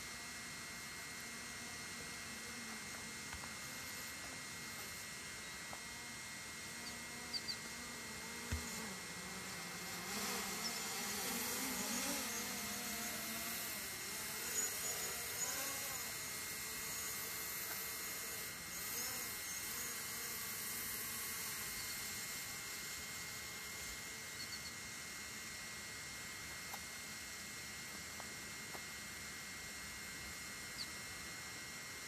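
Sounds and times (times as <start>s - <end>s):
steady hum: 0.0s - 32.0s
wavering buzzing: 0.0s - 32.0s.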